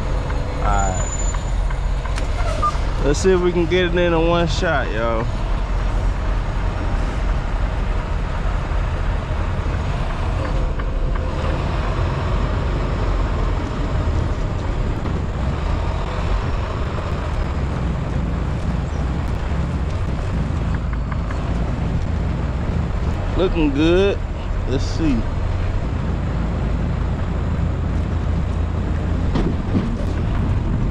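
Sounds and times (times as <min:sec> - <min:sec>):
diesel truck engine rumbling: 0:00.0 - 0:30.9.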